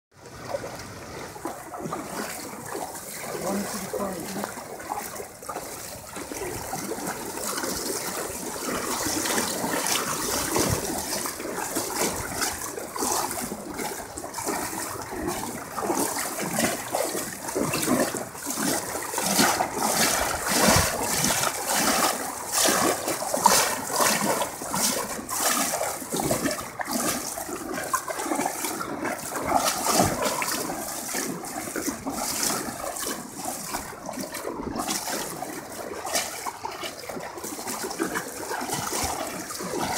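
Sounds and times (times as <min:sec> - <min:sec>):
floodwater rushing and splashing: 0:00.1 - 0:39.9.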